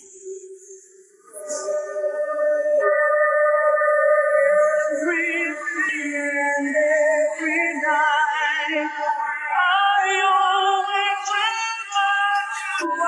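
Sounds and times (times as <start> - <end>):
pop song with singing: 0.0 - 13.0.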